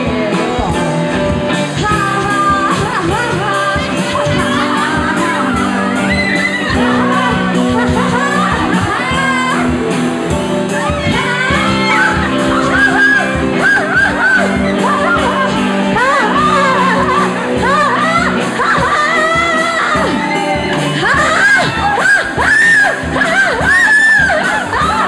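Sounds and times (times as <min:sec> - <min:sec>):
amplified guitar: 0:00.0 - 0:25.0
crowd shouting and whooping: 0:00.0 - 0:25.0
live band playing: 0:00.0 - 0:25.0
person singing: 0:00.0 - 0:25.0
steady drum beat: 0:00.0 - 0:25.0.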